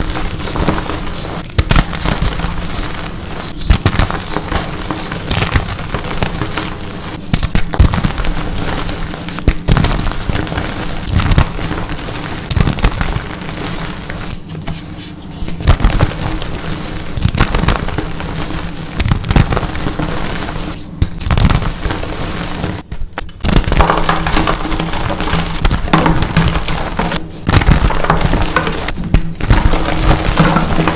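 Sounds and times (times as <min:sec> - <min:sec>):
chalk blocks crunching: 0:00.0 - 0:30.9.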